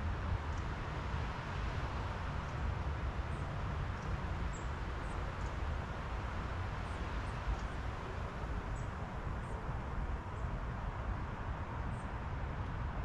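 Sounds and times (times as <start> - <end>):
wind through trees: 0.0 - 13.0.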